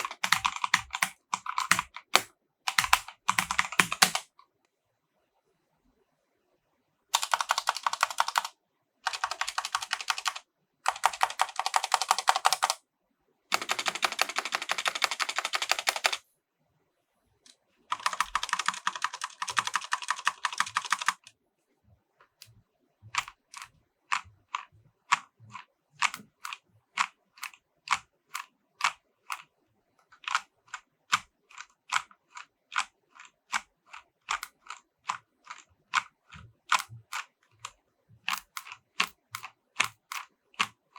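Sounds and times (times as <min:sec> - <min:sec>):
mechanical keyboard typing: 0:00.0 - 0:04.4, 0:07.2 - 0:12.8, 0:13.5 - 0:16.2, 0:17.9 - 0:21.4, 0:23.1 - 0:40.9.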